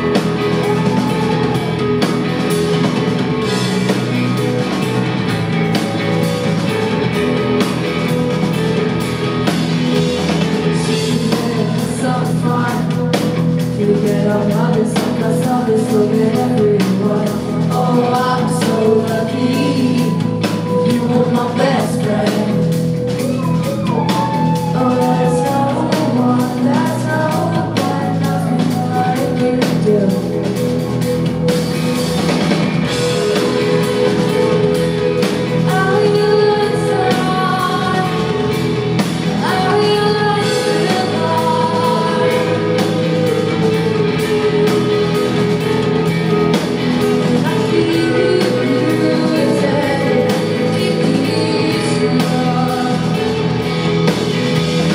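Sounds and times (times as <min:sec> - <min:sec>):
bass guitar: 0:00.0 - 0:54.9
drum kit: 0:00.0 - 0:54.9
electric guitars: 0:00.0 - 0:54.9
woman singing lead: 0:00.0 - 0:54.9.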